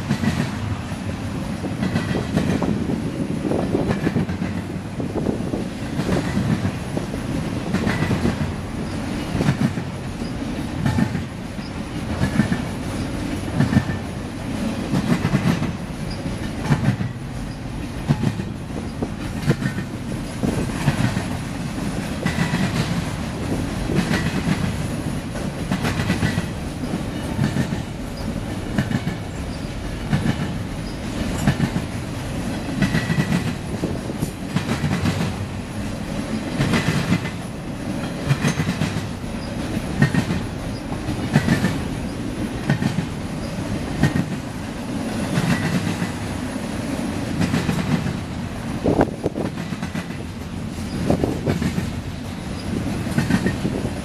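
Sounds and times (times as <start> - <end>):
freight train rolling rumble: 0.0 - 54.0
wheels clacking over rail joints: 0.0 - 54.0.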